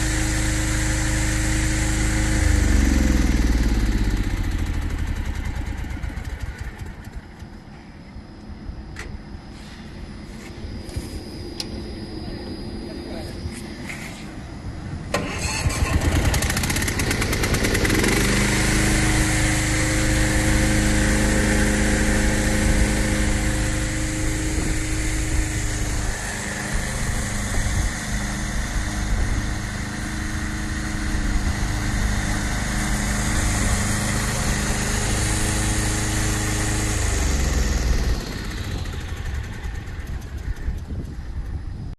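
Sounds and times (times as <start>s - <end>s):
mower engine running: 0.0s - 9.3s, 14.9s - 41.9s.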